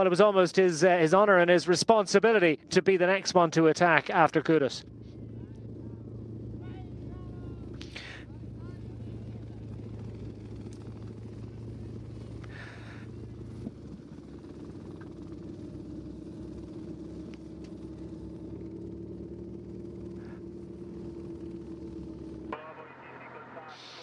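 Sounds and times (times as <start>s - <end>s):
motor vehicle engines droning: 0.0s - 24.0s.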